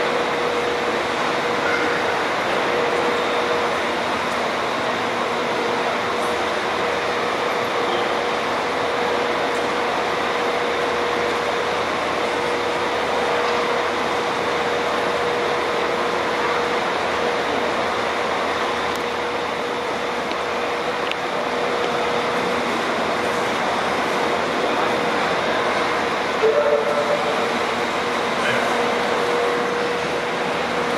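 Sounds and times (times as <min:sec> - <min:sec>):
broad background rush: 0:00.0 - 0:30.9
tram mechanical hum: 0:00.0 - 0:30.9.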